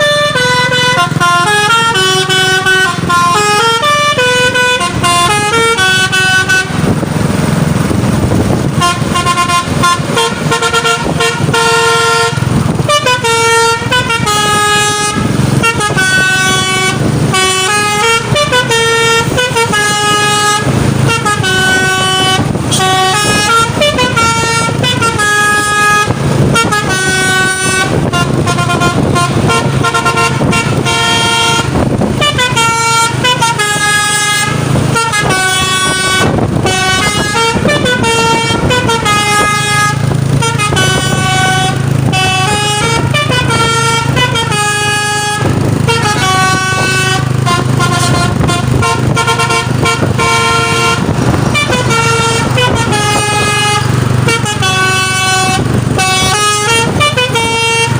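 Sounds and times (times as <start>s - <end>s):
multi-tone horn playing a melody: 0.0s - 7.2s, 7.8s - 57.9s
engine humming: 0.0s - 57.9s.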